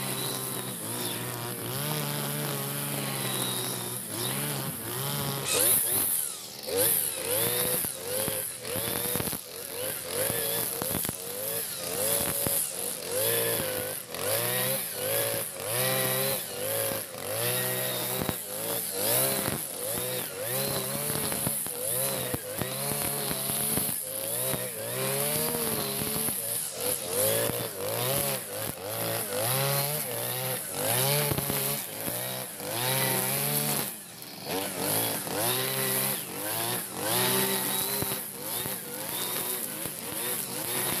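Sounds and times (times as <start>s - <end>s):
brush cutter engine revving: 0.0s - 41.0s.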